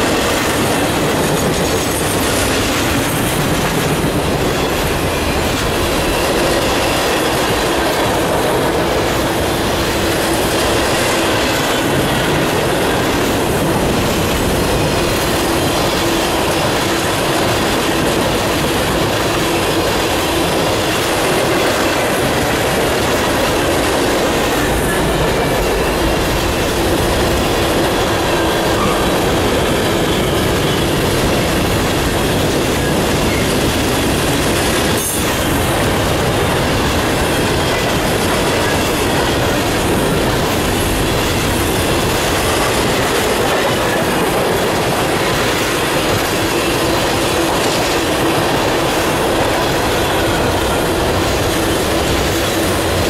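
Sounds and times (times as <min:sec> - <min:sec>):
steel wheels running on rails: 0:00.0 - 0:53.0.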